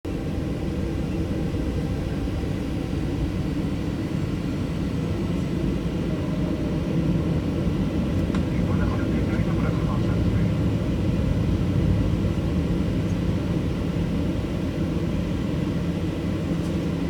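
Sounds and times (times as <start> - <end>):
jet engines rumbling: 0.2 - 17.0.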